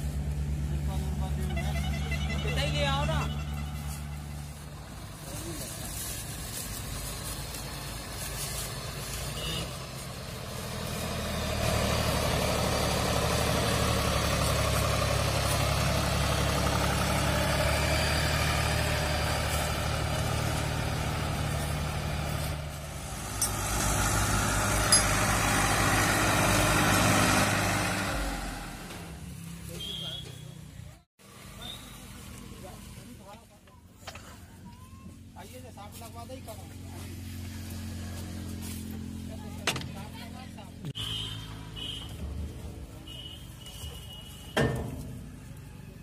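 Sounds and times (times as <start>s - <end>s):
tractor diesel engine running: 0.0s - 30.0s, 31.3s - 46.0s
second tractor engine: 0.0s - 46.0s.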